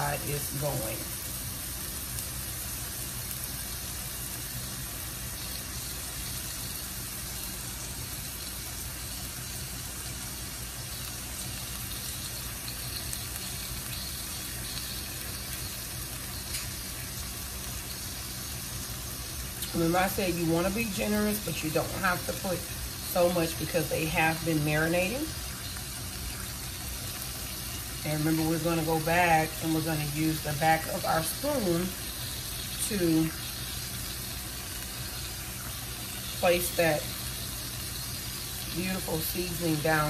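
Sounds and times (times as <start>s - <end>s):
meat sizzling on griddle: 0.0s - 40.0s.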